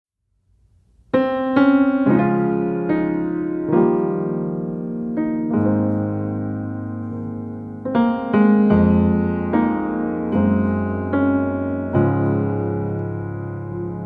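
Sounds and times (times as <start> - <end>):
slow piano melody: 0.6 - 14.0.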